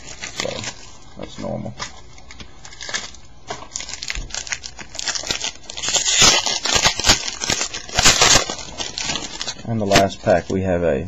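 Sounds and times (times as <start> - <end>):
plastic wrapper crinkling and tearing: 0.0 - 10.7.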